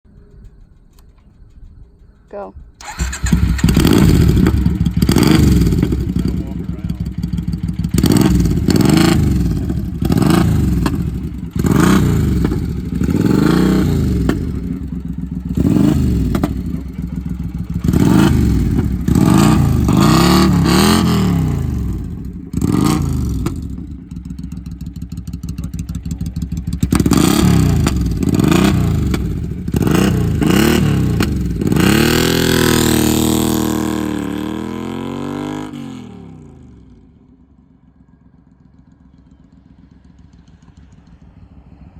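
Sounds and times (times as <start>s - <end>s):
motorcycle engine revving: 2.6s - 41.9s.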